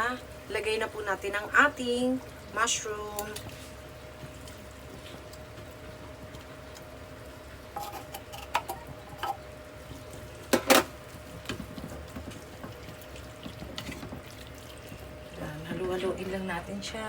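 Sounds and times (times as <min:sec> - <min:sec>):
faint steady hum: 0:00.0 - 0:17.0
low hiss of cooking: 0:00.0 - 0:17.0.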